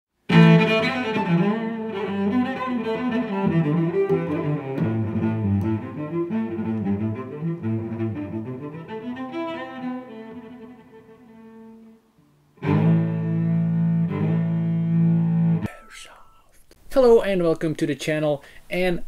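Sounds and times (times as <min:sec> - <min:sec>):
low bowed strings music: 0:00.3 - 0:16.4.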